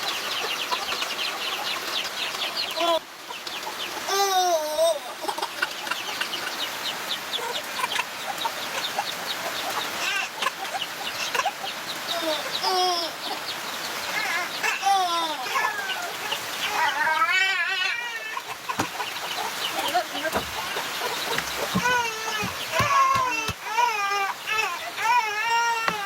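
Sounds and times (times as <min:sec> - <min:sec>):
chickens peeping: 0:00.0 - 0:26.0.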